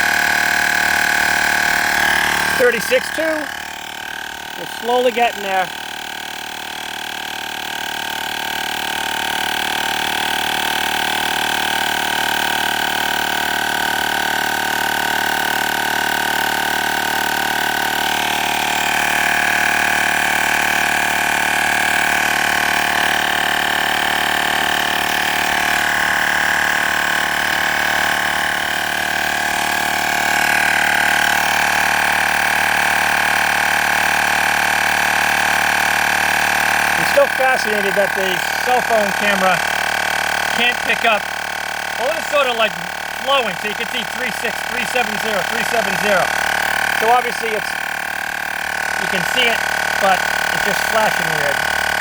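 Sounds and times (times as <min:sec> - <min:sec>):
air compressor whining: 0:00.0 - 0:52.0.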